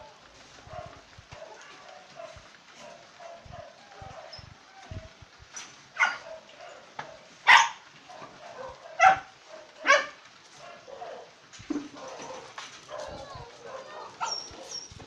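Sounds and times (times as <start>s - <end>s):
dogs barking: 0.6s - 4.5s, 5.9s - 15.0s
dogs yipping: 0.7s - 11.3s, 12.0s - 15.0s.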